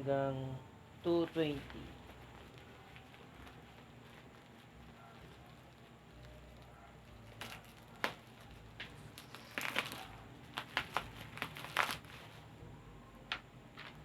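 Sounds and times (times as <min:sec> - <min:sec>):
packaging crinkling and ripping: 0:01.2 - 0:12.5.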